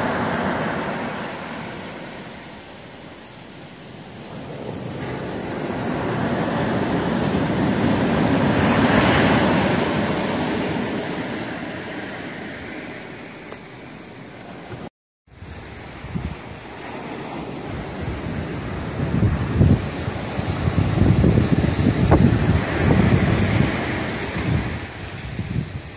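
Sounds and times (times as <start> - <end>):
ocean surf breaking on beach: 0.0 - 25.9.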